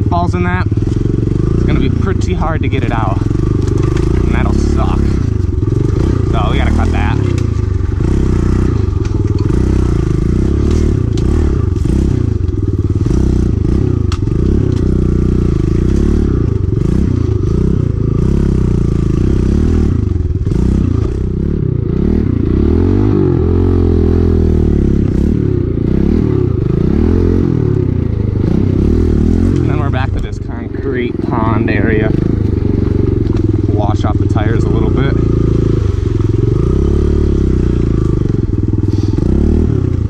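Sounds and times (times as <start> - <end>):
bike rattling over rough ground: 0.0 - 21.4, 25.7 - 40.0
small motorbike engine revving: 0.6 - 40.0.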